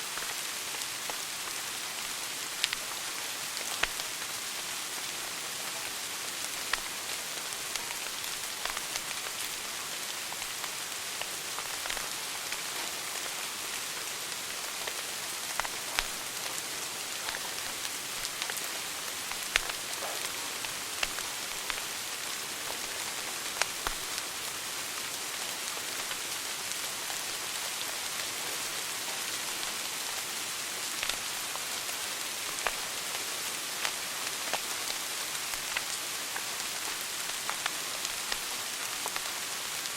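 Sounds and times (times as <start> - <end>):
wood fire crackling and popping: 0.1 - 28.3, 30.8 - 39.7.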